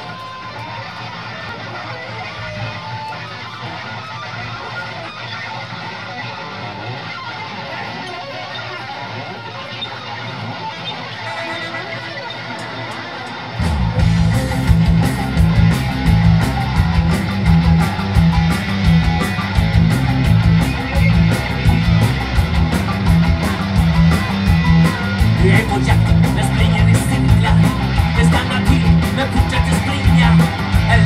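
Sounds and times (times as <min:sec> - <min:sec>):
ska-punk band playing live: 0:00.0 - 0:31.0.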